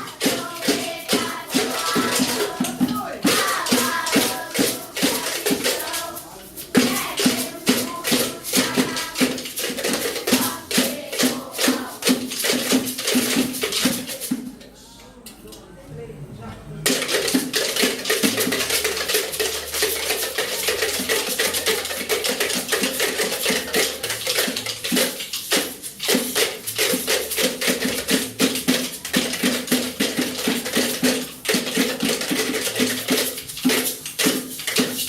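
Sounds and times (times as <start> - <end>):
hand percussion clattering: 0.0 - 14.5, 16.8 - 35.0
faint music: 0.0 - 35.0.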